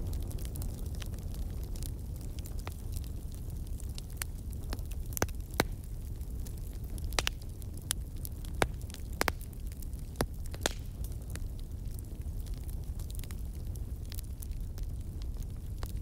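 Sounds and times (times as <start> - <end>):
low fire rumble: 0.0 - 16.0
wood fire crackling and popping: 0.0 - 16.0.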